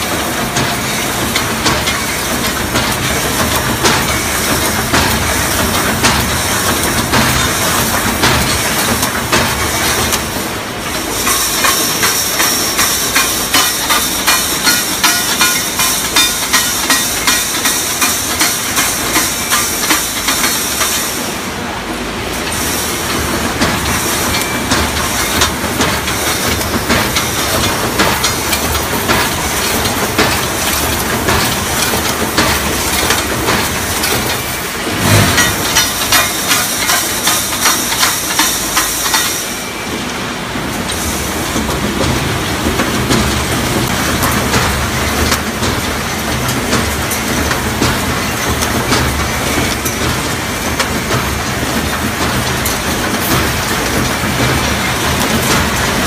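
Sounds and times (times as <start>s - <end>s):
welding machine clacking: 0.0s - 40.0s, 40.6s - 56.0s
machine hiss: 0.0s - 56.0s.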